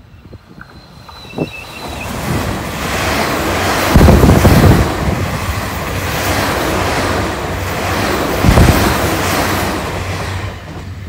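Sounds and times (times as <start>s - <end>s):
wind buffeting microphone: 0.0s - 10.1s
train rushing past: 0.0s - 11.0s.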